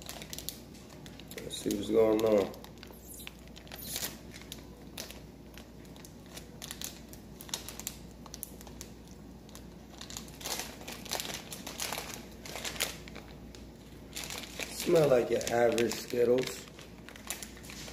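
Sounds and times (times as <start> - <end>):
plastic candy bag crinkling: 0.0 - 17.9.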